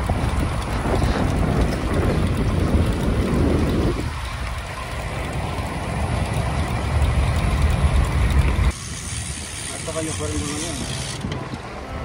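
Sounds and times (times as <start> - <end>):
tyre and road noise: 0.0 - 12.0
wind buffeting microphone: 0.0 - 12.0.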